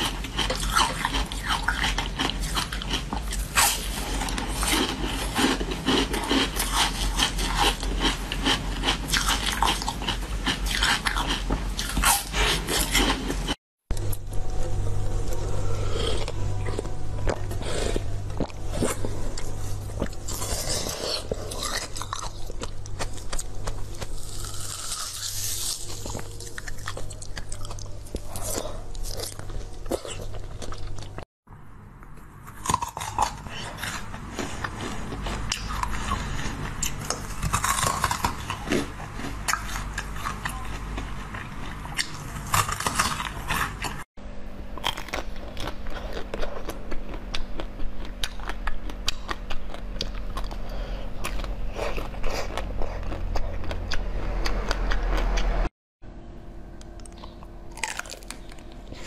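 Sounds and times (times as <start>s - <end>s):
chewing ice: 0.0s - 14.5s, 15.2s - 31.3s, 32.5s - 44.0s, 44.8s - 55.6s, 56.8s - 59.0s.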